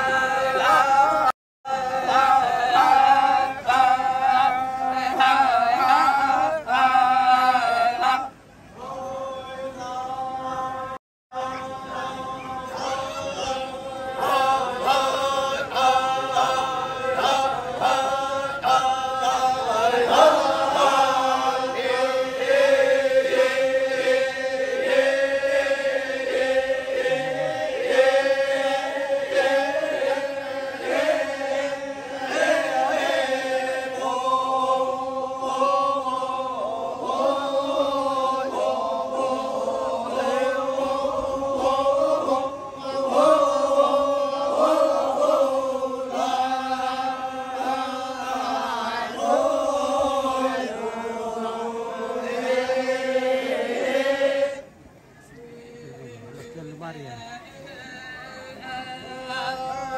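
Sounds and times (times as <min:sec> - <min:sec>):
group chanting in unison: 0:00.0 - 0:56.5, 0:57.3 - 0:59.9.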